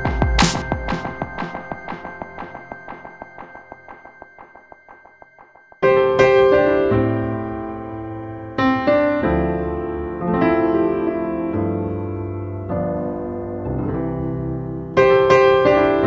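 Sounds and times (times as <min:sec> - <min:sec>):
slow piano chords: 0:00.0 - 0:04.7, 0:05.8 - 0:16.0.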